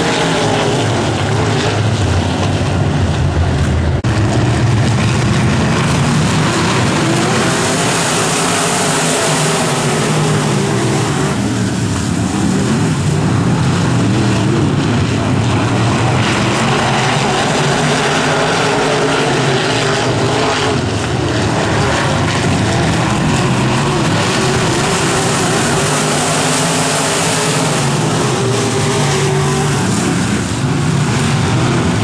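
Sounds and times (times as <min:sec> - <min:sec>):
race car engines droning: 0:00.0 - 0:32.0.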